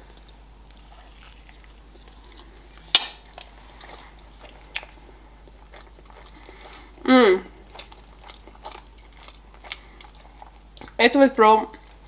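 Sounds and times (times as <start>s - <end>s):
soft chewing: 0.0s - 11.0s.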